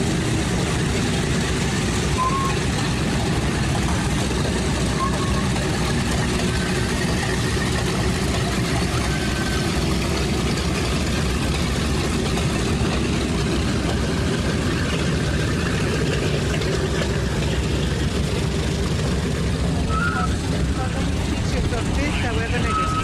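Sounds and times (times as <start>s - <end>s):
radial aircraft engines droning: 0.0s - 23.0s.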